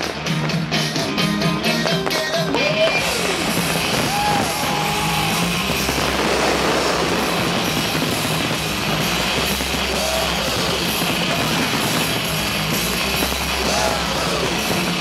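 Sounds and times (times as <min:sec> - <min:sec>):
loud rock music: 0:00.0 - 0:15.0
crowd cheering and yelling: 0:02.6 - 0:15.0.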